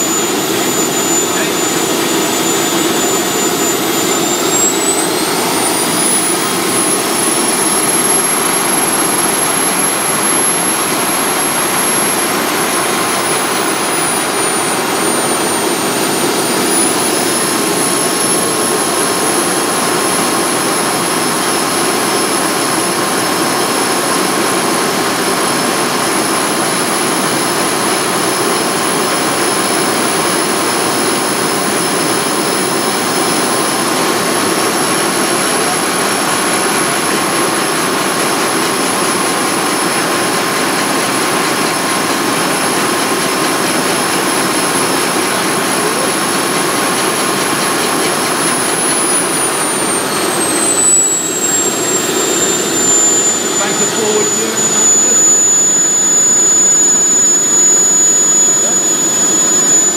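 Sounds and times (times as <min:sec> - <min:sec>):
model gas turbine whining: 0:00.0 - 0:59.9.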